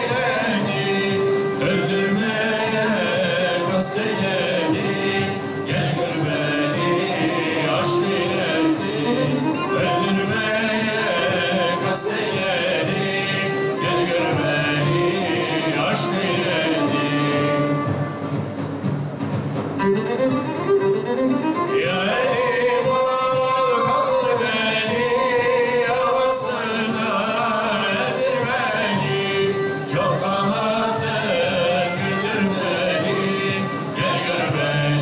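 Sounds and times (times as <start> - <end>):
man singing a hymn: 0.0 - 17.9, 21.6 - 35.0
bowed string accompaniment: 0.0 - 35.0.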